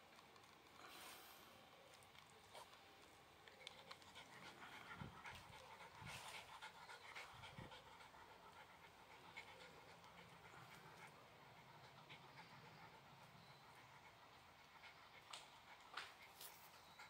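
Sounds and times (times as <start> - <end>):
dog panting: 1.9 - 17.0.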